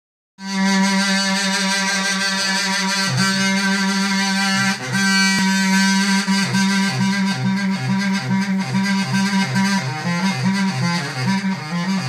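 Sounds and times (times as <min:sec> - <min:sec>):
double-reed wind instrument note: 0:00.4 - 0:12.0.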